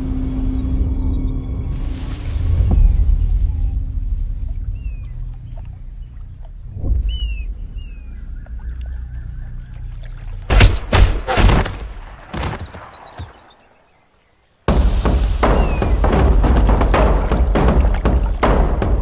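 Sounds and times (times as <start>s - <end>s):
birds chirping: 2.7s - 19.0s.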